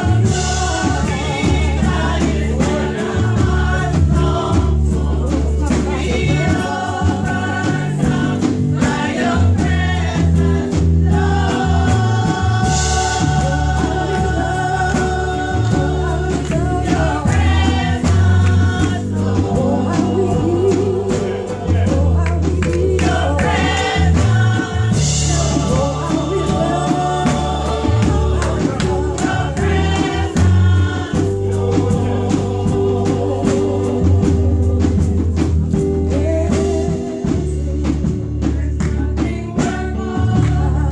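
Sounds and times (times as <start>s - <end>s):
accompaniment with bass and beat: 0.0s - 40.9s
women's gospel group singing: 0.0s - 40.9s.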